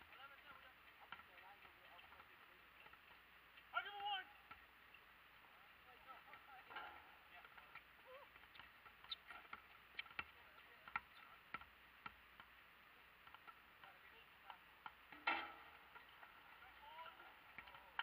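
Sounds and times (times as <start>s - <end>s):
basketball bouncing on asphalt: 0.0s - 3.7s, 6.4s - 18.0s.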